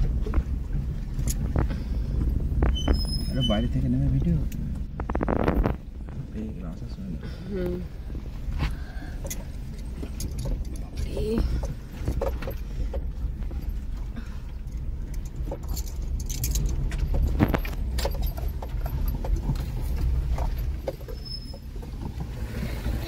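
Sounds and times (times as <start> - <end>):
rattles and knocks over bumps: 0.0 - 7.2, 7.9 - 23.0
engine and tyres rumbling: 0.0 - 23.0.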